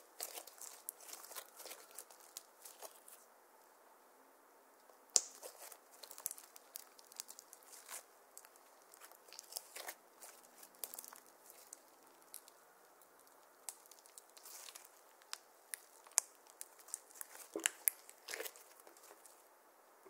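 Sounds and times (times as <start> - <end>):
slime crackling and popping: 0.1 - 3.2, 5.1 - 19.4.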